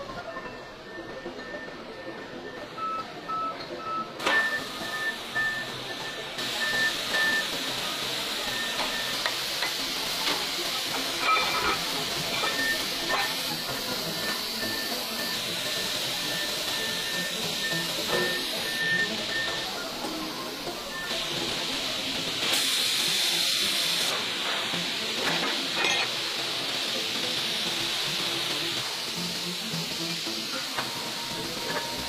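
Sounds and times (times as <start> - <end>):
hissing rush of machinery: 4.2 - 32.0.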